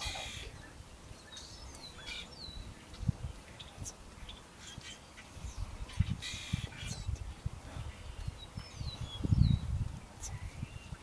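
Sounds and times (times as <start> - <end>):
birds chirping and whistling: 0.0 - 7.2, 7.9 - 11.0.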